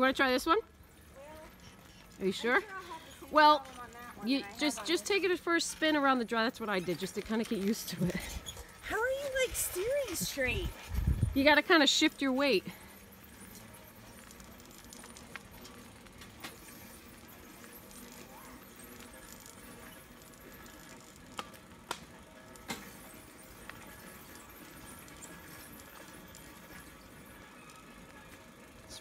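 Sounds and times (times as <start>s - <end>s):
tricycle rolling on asphalt: 0.0s - 29.0s.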